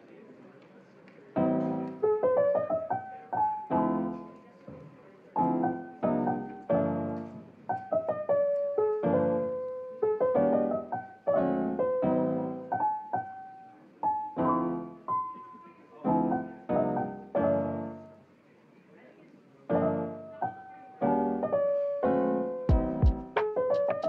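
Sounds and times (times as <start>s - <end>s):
lofi piano music: 1.4s - 4.3s, 5.4s - 18.2s, 19.7s - 24.0s.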